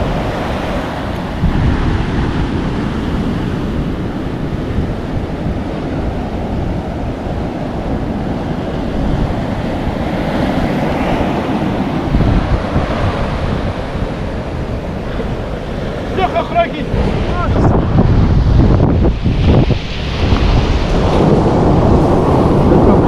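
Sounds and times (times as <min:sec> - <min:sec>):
surf breaking on beach: 0:00.0 - 0:23.0
wind on microphone: 0:00.0 - 0:23.0.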